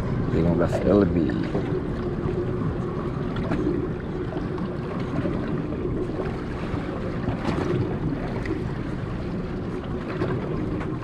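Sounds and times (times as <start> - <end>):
boat engine running: 0.0 - 11.0
water noise: 0.0 - 11.0
wind: 0.0 - 11.0.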